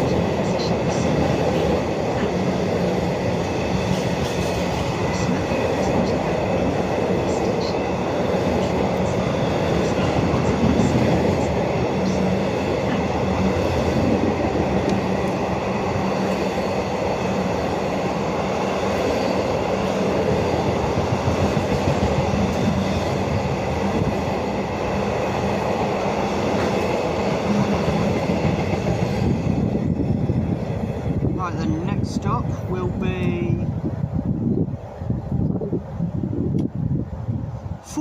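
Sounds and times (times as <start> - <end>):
freight train wheels rattling on rails: 0.0 - 34.8.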